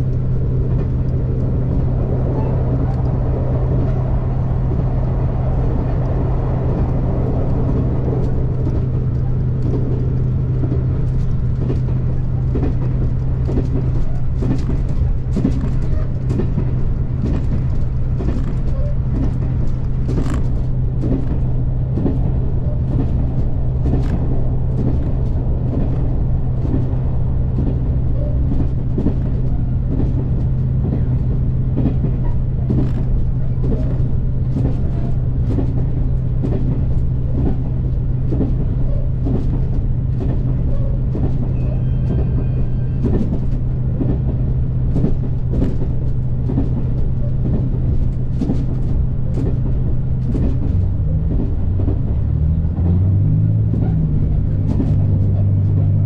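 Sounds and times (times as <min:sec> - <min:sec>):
diesel engine drone: 0:00.0 - 0:56.0
train cabin rumble: 0:00.0 - 0:56.0.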